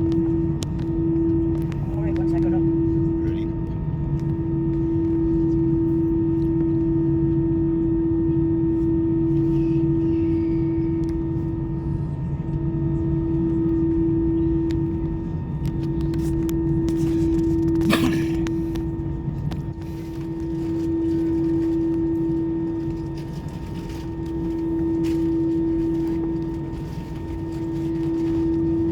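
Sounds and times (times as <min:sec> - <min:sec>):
airliner cabin droning hum: 0:00.0 - 0:28.9.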